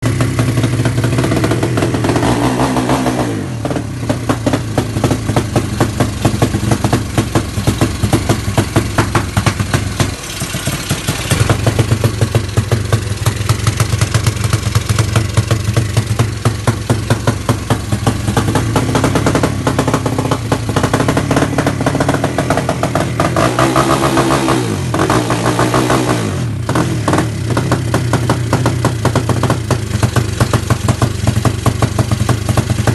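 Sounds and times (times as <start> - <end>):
scooter engine pulsing exhaust: 0.0 - 32.9.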